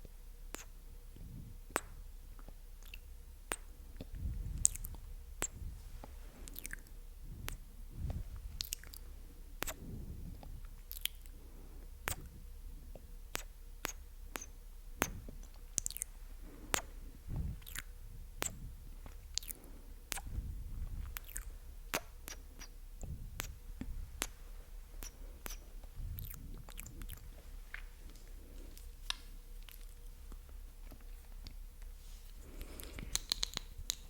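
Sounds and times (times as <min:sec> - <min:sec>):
lip and tongue clicks: 0:00.5 - 0:00.8, 0:01.7 - 0:05.7, 0:06.5 - 0:09.0, 0:09.6 - 0:09.8, 0:10.4 - 0:11.4, 0:12.1 - 0:24.4, 0:25.0 - 0:31.6, 0:32.6 - 0:34.0.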